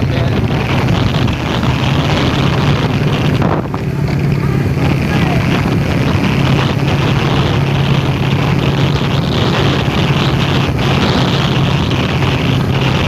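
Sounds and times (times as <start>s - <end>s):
travel noise: 0.0s - 13.0s
vehicle engine running steadily: 0.0s - 13.0s.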